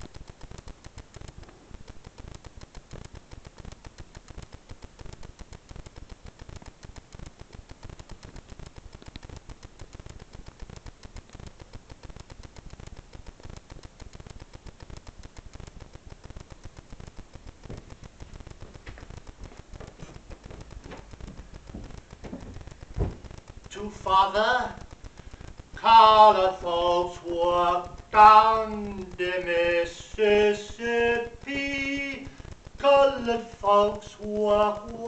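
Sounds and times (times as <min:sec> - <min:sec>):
dense irregular crackling: 0:00.0 - 0:35.0
faint hiss: 0:00.0 - 0:35.0.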